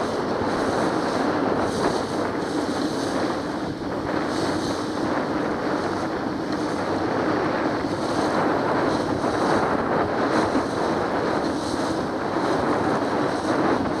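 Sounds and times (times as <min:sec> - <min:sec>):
boat engine running: 0:00.0 - 0:14.0
water rushing along hull: 0:00.0 - 0:14.0
wind buffeting microphone: 0:00.0 - 0:14.0.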